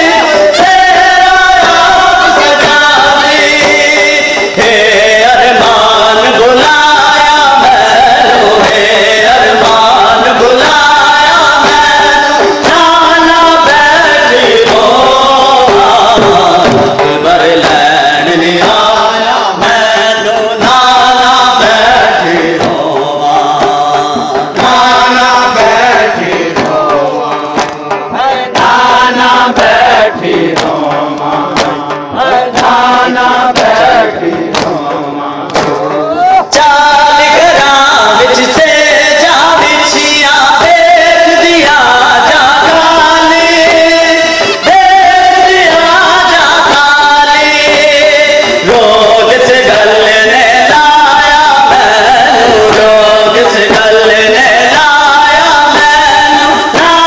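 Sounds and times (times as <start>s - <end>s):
man chanting a lament: 0.0s - 57.0s.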